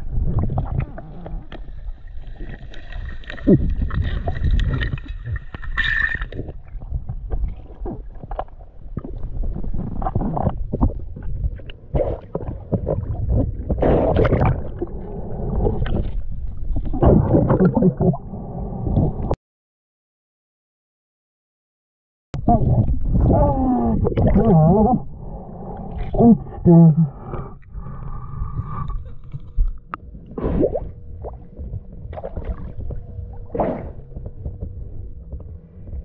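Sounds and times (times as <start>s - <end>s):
muffled underwater rumbling: 0.0s - 19.4s, 22.4s - 36.0s.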